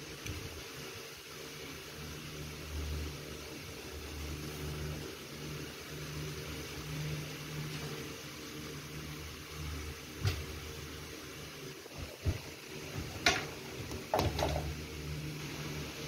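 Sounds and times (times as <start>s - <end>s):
low mechanical hum: 0.0s - 16.0s
steady hiss: 0.0s - 16.0s.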